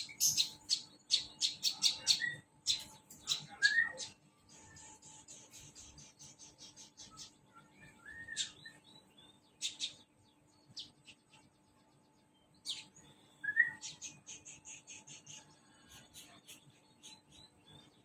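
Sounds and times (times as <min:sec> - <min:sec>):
songbird calling: 0:00.0 - 0:18.0.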